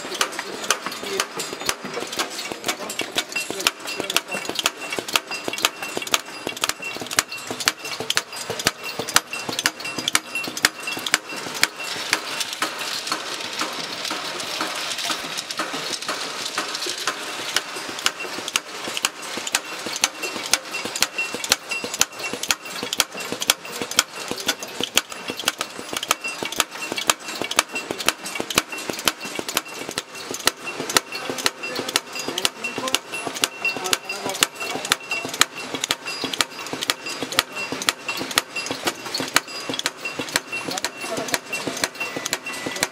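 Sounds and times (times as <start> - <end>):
machine clacking rhythmically: 0.0 - 42.9.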